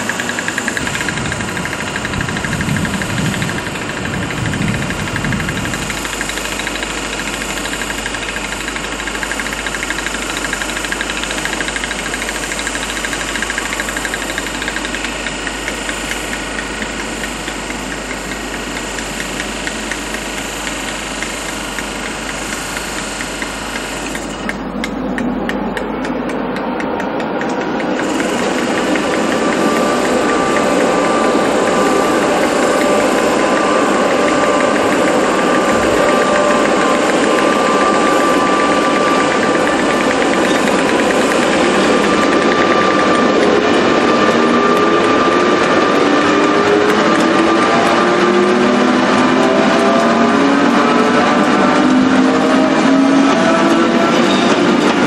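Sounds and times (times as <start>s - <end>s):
fine ticking rattle: 0.0s - 47.7s
locomotive hum and whir: 0.0s - 55.0s.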